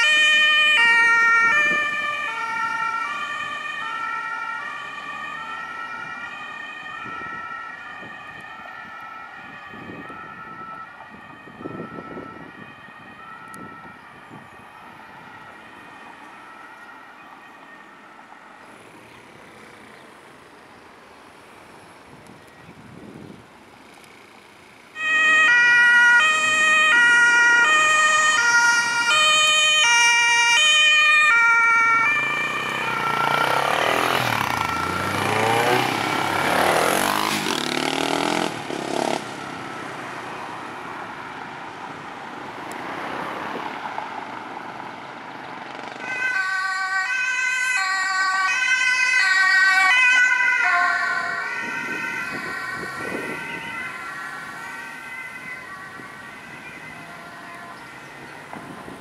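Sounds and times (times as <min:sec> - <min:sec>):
two-tone ambulance siren: 0:00.0 - 0:19.0, 0:24.9 - 0:42.1, 0:45.9 - 0:59.0
engine and tyre noise: 0:00.0 - 0:59.0
traffic: 0:00.0 - 0:59.0.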